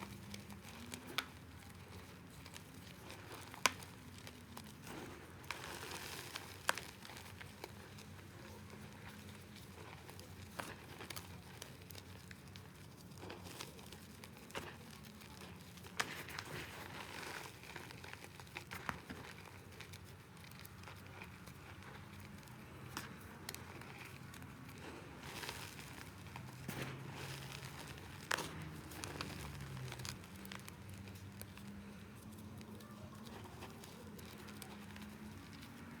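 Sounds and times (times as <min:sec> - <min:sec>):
chalk crunching and crackling: 0:00.0 - 0:36.0.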